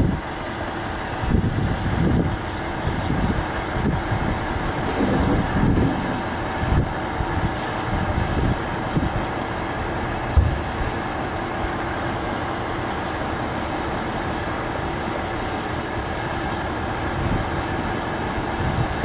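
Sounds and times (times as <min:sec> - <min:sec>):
low rumbling noise: 0:01.0 - 0:19.0.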